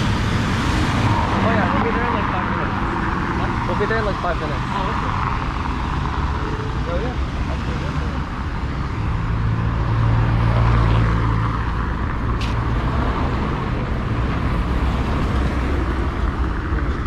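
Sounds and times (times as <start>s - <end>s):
steady road noise: 0.0s - 17.0s
vehicle passing by: 0.0s - 17.0s.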